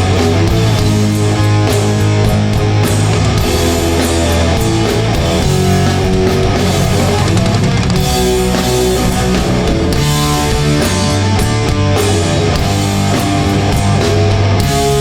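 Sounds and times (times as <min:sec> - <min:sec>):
live punk band playing: 0:00.0 - 0:15.0.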